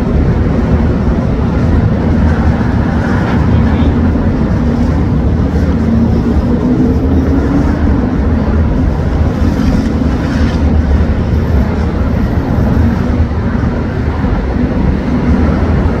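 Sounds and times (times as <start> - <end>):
diesel railcar engine rumbling: 0.0 - 16.0.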